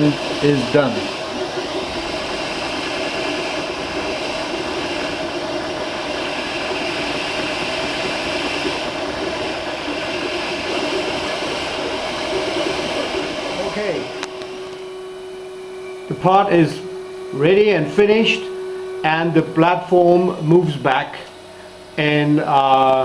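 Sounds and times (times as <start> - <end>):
printer fan and motors humming: 0.0 - 23.0.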